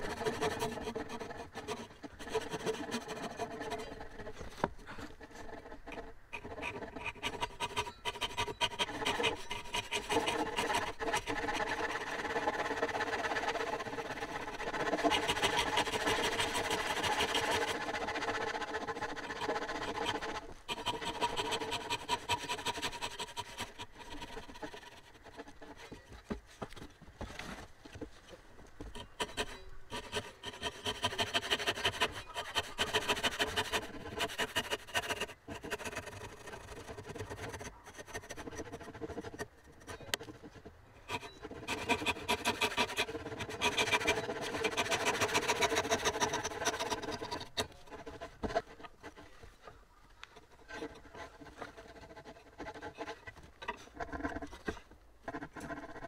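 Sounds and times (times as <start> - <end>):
hand saw cutting wood: 0.0 - 25.9, 28.8 - 49.4, 50.4 - 56.0.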